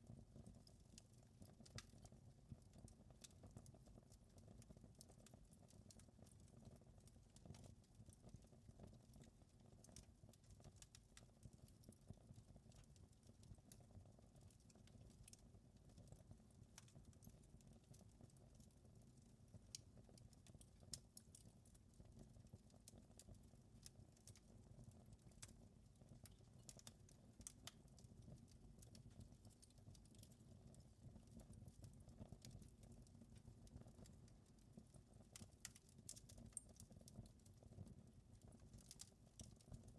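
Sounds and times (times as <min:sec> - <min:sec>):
wood fire crackling: 0:00.2 - 0:39.9.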